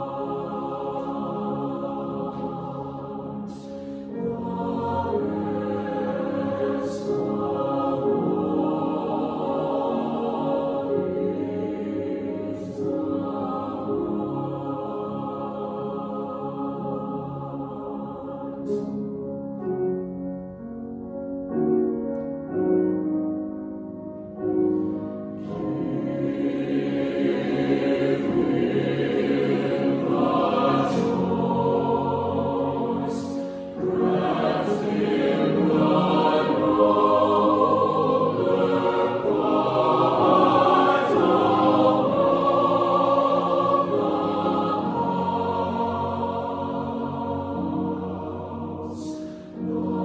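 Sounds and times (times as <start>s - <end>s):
mixed choir singing: 0.0s - 19.1s, 24.8s - 50.0s.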